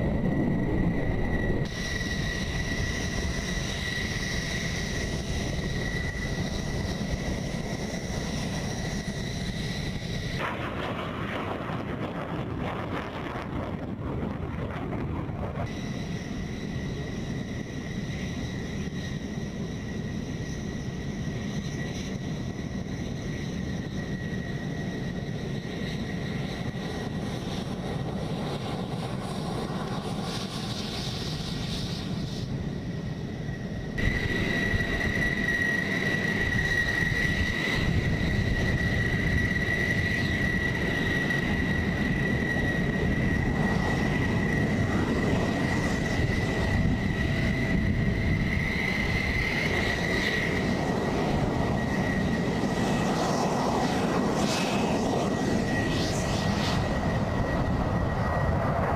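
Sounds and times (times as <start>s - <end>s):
jet engine whine and rumble: 0.0s - 58.9s.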